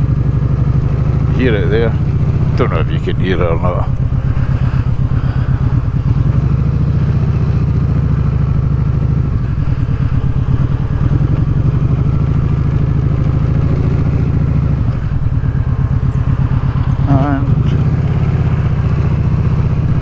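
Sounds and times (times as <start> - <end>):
exhaust rattle: 0.0 - 20.0
motorcycle engine running: 0.0 - 20.0.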